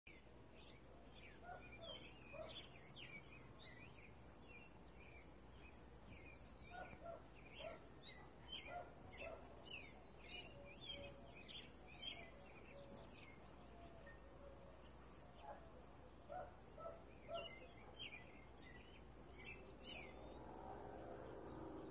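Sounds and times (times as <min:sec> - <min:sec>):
small birds chirping: 0:00.1 - 0:21.9.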